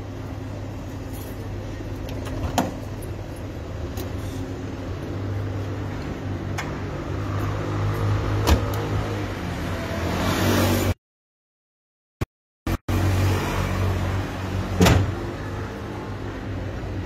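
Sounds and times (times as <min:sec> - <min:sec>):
street traffic engine hum: 0:00.0 - 0:11.0, 0:12.7 - 0:17.0.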